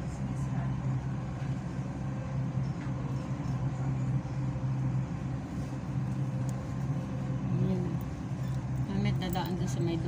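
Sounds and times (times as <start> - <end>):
train cabin hum and rumble: 0.0 - 10.0.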